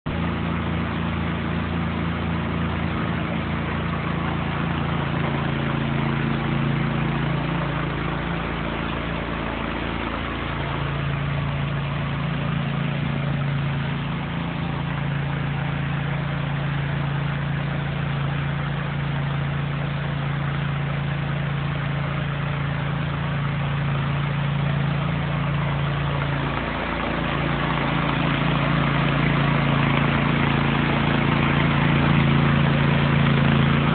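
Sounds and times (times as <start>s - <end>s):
pressure washer engine hum: 0.1s - 33.9s
water spraying onto concrete: 0.1s - 33.9s.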